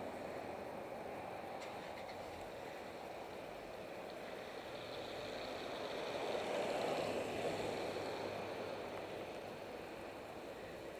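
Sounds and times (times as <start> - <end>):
road traffic: 0.0 - 10.9.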